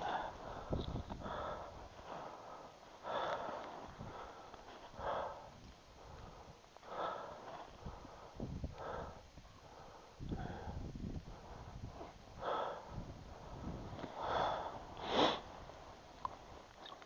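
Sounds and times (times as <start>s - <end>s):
person breathing heavily through nose: 0.0s - 16.6s.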